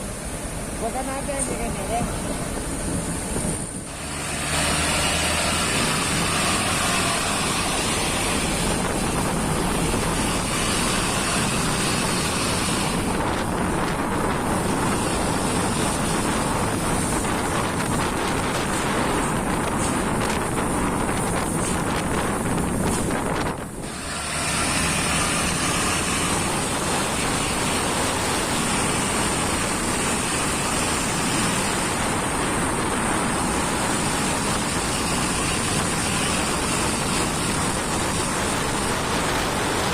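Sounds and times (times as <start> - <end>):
road and wind noise: 0.0 - 39.9
truck engine running: 0.0 - 39.9.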